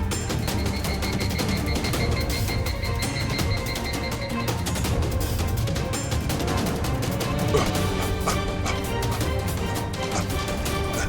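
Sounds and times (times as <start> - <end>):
action music with heavy bass: 0.0 - 11.0.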